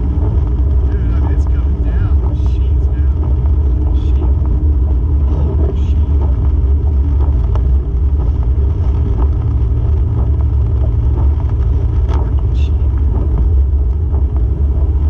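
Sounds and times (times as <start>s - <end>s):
car engine and tyres on wet road: 0.0s - 15.0s
windshield wipers swishing: 0.0s - 15.0s.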